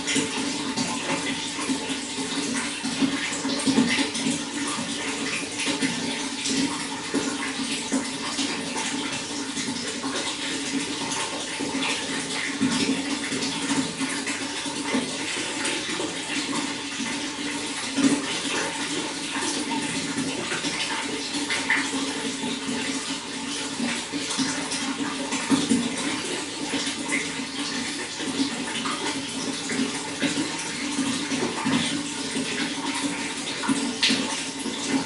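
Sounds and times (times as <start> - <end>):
water running and splashing: 0.0 - 35.0.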